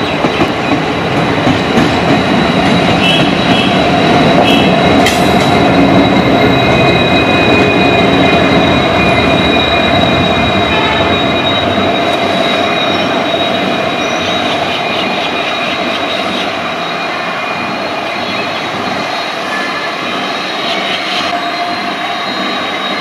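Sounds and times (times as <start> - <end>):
train rolling on rails: 0.0 - 23.0.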